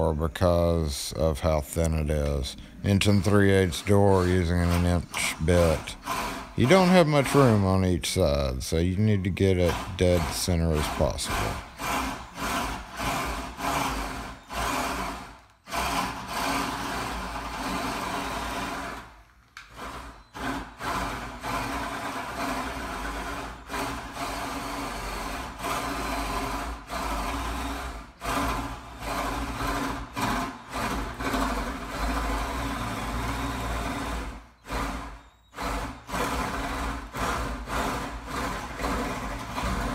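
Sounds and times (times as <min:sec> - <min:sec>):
electric drill boring into wood: 0:03.0 - 0:08.0, 0:08.7 - 0:39.9.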